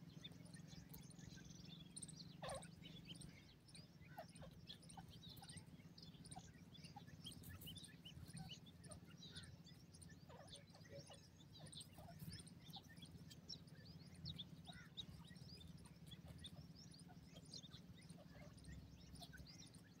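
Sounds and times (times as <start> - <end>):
chicks peeping: 0.0 - 20.0
low background hum: 0.0 - 20.0.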